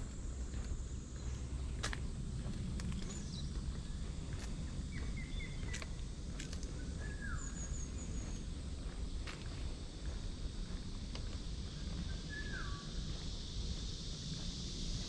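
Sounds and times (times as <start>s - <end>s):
steady low rumble: 0.0s - 15.0s
small birds chirping: 0.1s - 15.0s.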